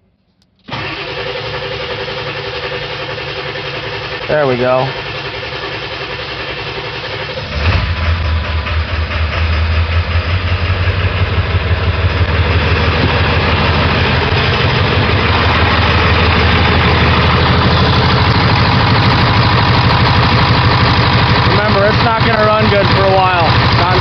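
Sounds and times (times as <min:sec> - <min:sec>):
diesel engine running: 0:00.6 - 0:24.0.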